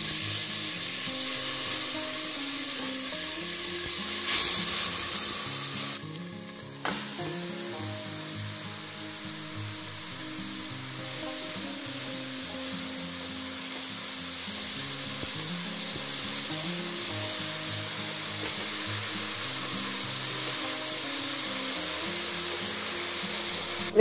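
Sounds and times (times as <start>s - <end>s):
background music: 0.0s - 24.0s
vegetables sizzling in oil: 0.0s - 24.0s.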